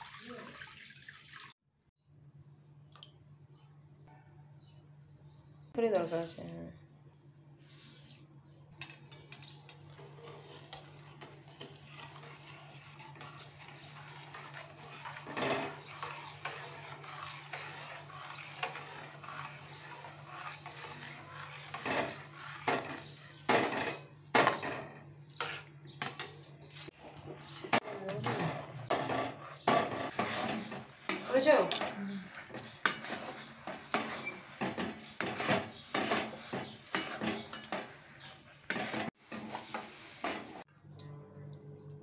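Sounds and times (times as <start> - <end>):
spatula scraping a pan: 6.0 - 6.8, 7.6 - 40.7.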